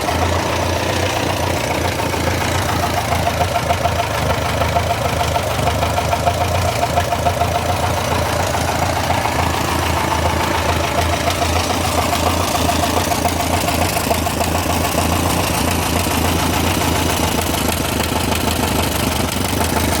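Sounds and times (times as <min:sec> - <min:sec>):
fast ticking engine knock: 0:00.0 - 0:20.0
tractor engine idling: 0:00.0 - 0:20.0.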